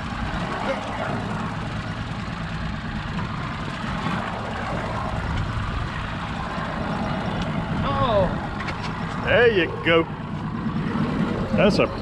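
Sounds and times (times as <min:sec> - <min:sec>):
outboard motors idling: 0:00.0 - 0:12.0.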